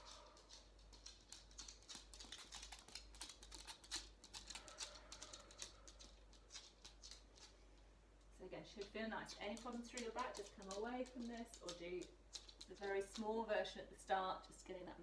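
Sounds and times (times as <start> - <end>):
dog claws on wooden floor: 0.0 - 13.5.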